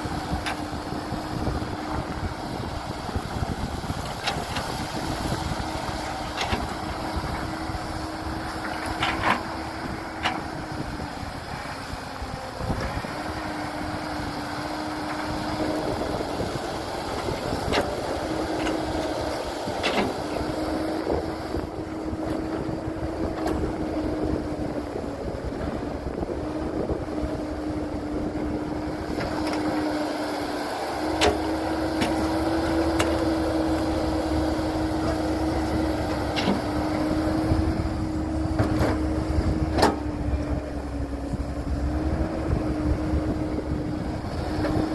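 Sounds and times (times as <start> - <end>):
construction machinery engines running: 0.0 - 44.9.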